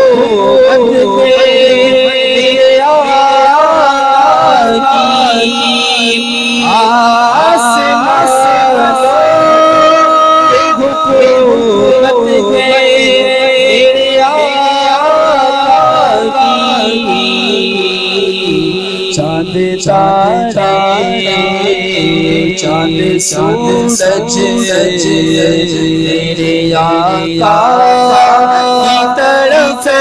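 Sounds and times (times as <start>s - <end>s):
man singing with echo: 0.0s - 30.0s.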